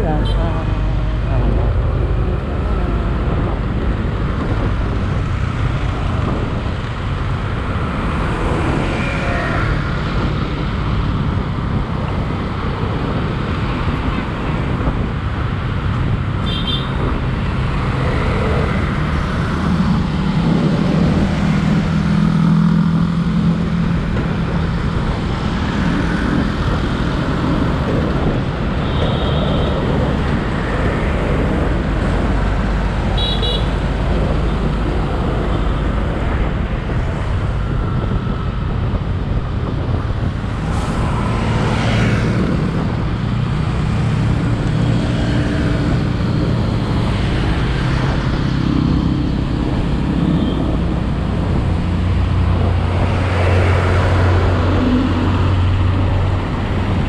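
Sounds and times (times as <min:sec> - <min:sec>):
highway traffic rumble: 0:00.0 - 0:57.0.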